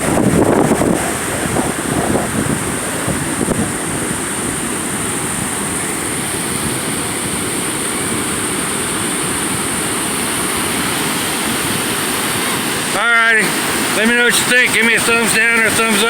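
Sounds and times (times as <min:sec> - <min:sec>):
wind noise on microphone: 0:00.0 - 0:12.9
ocean surf breaking: 0:00.0 - 0:16.0.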